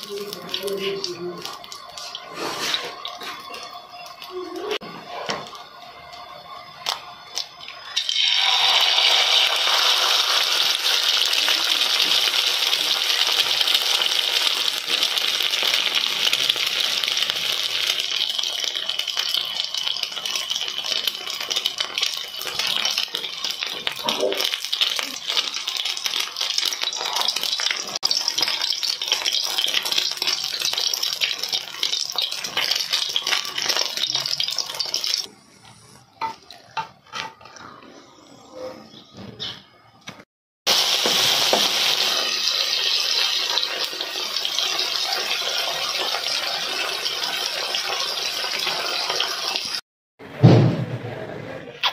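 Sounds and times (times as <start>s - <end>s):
egg sizzling in a frying pan: 0.0s - 35.3s, 40.7s - 49.8s.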